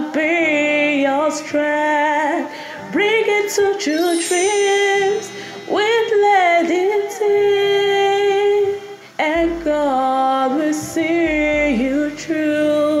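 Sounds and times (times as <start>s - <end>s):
soft backing track: 0.0s - 13.0s.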